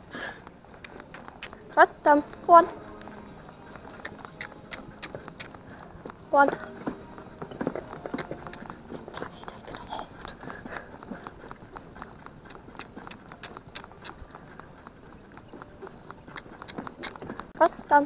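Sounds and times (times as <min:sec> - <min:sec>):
pony hooves and harness rattling: 0:00.0 - 0:18.0.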